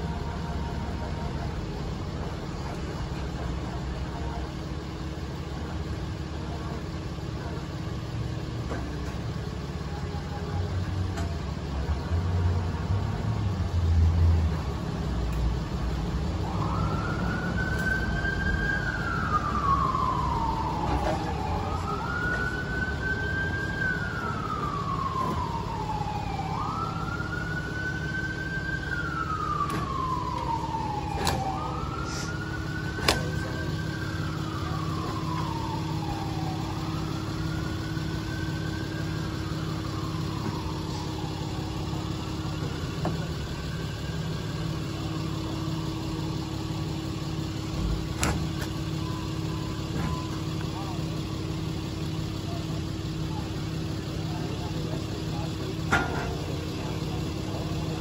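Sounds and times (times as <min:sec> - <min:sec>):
emergency siren wailing: 0:00.0 - 0:58.0
engine idling: 0:00.0 - 0:58.0.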